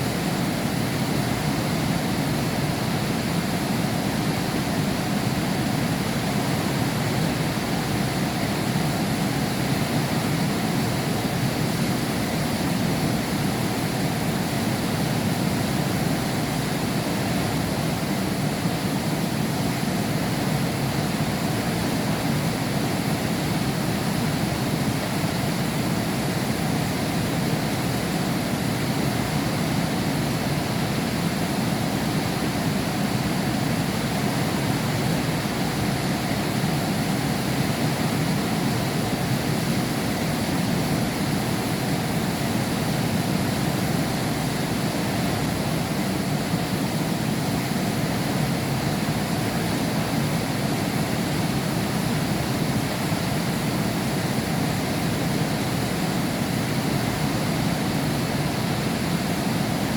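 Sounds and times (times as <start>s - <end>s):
heavy rain behind window: 0.0s - 59.9s.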